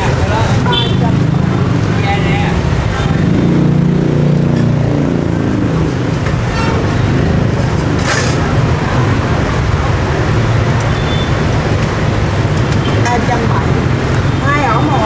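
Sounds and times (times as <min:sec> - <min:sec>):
passing engine: 0:00.0 - 0:15.0
road traffic engine rumble: 0:00.0 - 0:15.0.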